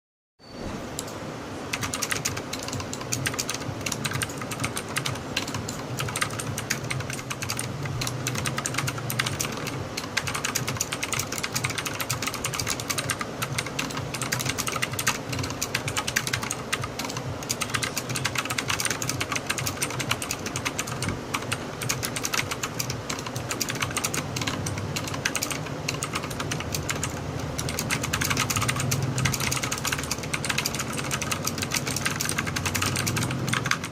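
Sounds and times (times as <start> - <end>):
mechanical keyboard typing: 1.7 - 33.9.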